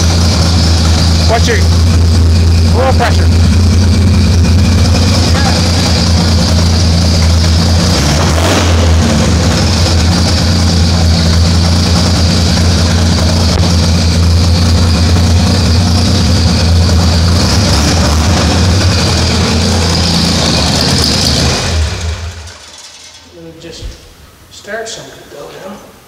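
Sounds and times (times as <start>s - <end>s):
car engine running: 0.0s - 23.2s.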